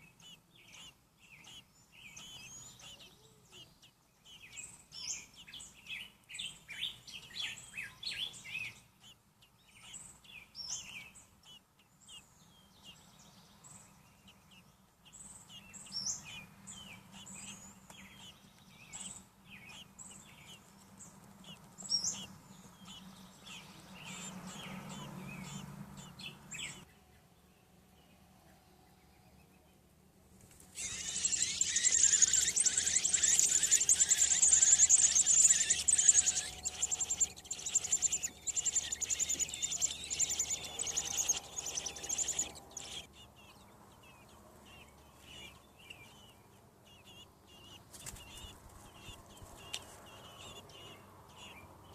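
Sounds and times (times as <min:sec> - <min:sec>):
baby birds peeping: 0:00.0 - 0:51.9.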